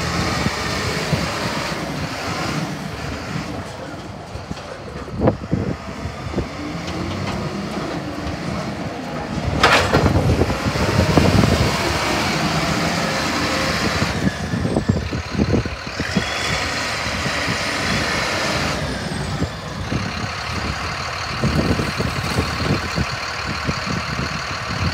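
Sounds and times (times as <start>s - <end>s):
diesel engine under throttle: 0.0s - 24.9s.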